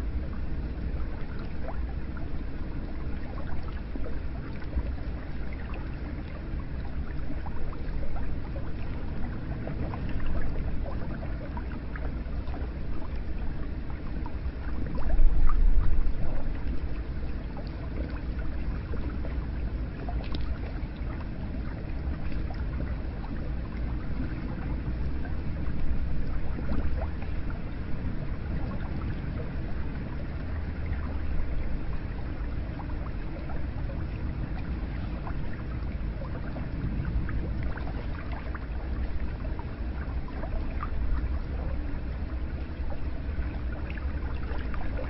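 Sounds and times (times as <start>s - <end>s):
water flowing and splashing: 0.0s - 45.0s.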